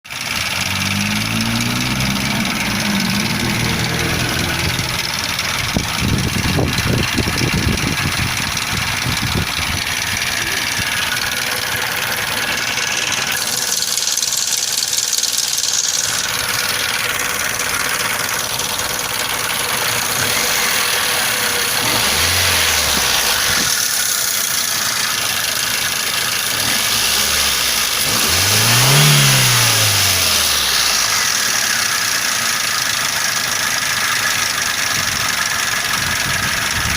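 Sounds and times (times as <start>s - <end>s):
car engine revving and idling: 0.1s - 36.9s
engine knocking: 0.1s - 36.9s.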